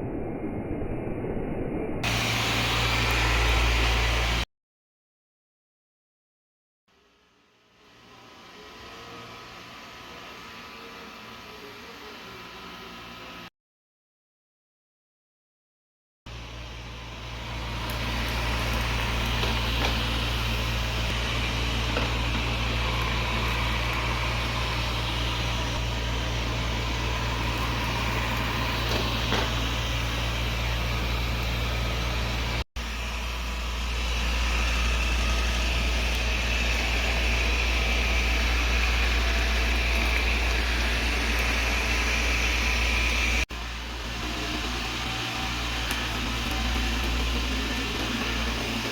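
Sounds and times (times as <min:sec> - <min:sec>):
robot vacuum whirring with whine: 0:02.0 - 0:04.4, 0:06.9 - 0:13.5, 0:16.3 - 0:48.9.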